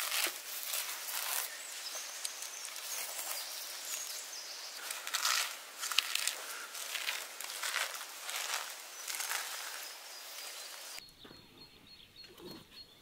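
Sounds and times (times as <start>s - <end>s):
moss rustling and tearing: 0.0s - 11.0s.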